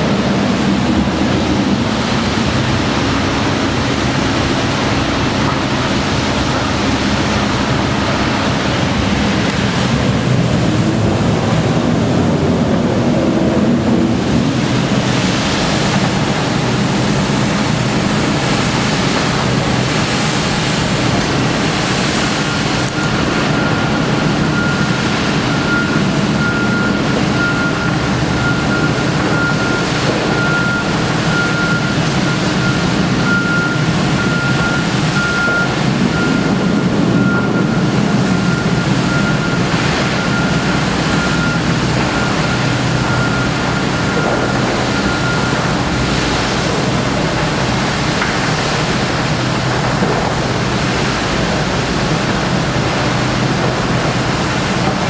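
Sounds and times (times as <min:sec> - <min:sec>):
heavy vehicle engines running: 0:00.0 - 0:55.0
vehicle backup alarm beeping: 0:00.0 - 0:55.0.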